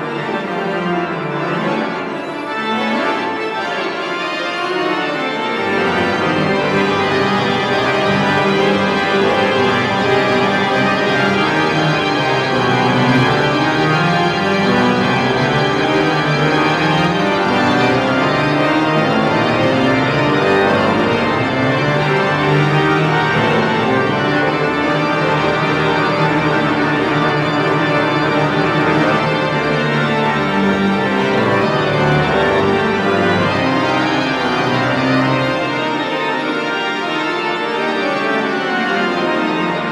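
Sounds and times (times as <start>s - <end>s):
pipe organ playing sustained chords: 0.0s - 39.9s.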